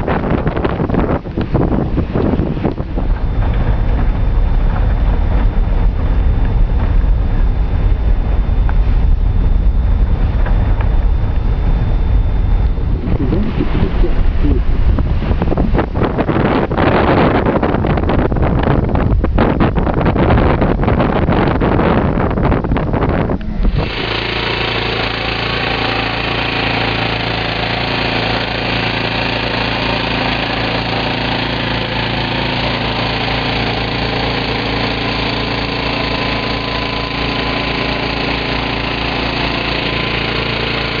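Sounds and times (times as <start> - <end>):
wind buffeting microphone: 0.0 - 40.6
engine running with low pulse: 0.0 - 41.0.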